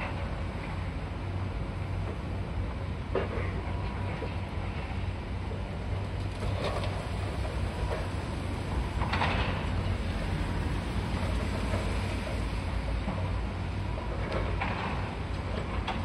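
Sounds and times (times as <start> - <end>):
excavator low drone: 0.0 - 16.0.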